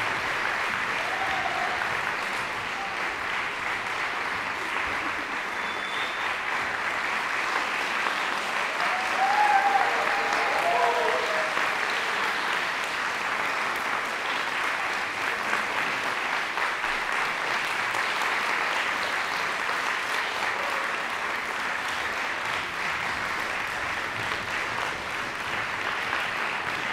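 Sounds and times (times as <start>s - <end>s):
audience applauding: 0.0s - 26.9s.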